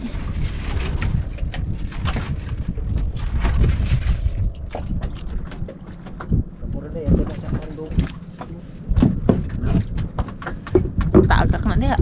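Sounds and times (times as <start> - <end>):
low rumble: 0.0 - 12.0
wind buffeting microphone: 0.0 - 12.0.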